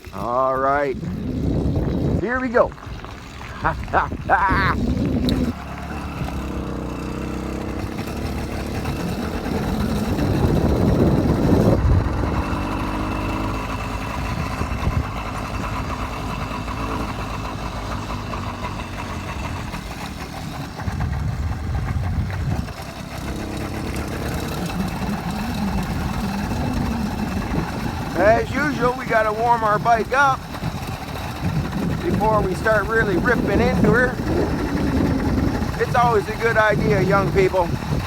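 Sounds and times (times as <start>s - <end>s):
two-stroke engine idling: 0.0s - 38.0s.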